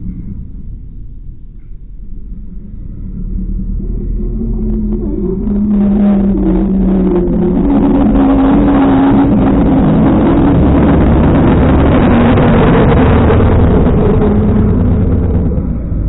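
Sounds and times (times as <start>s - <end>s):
car engine revving: 2.1s - 16.0s.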